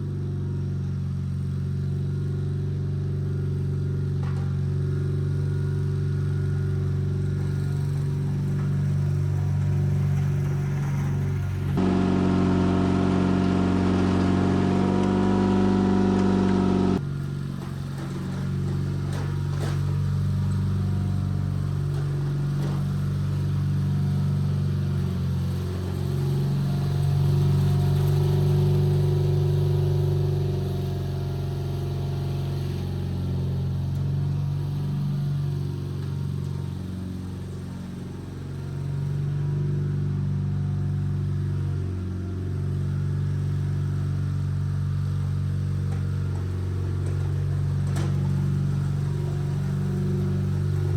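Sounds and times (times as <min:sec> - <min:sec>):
garden tractor engine running: 0:00.0 - 0:50.9
plow through dirt: 0:00.0 - 0:50.9.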